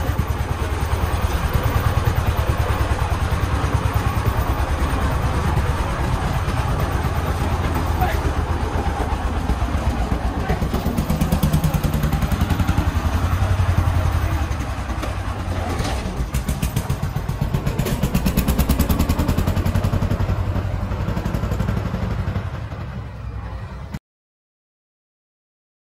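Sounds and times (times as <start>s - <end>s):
vehicle engine running: 0.0s - 23.9s.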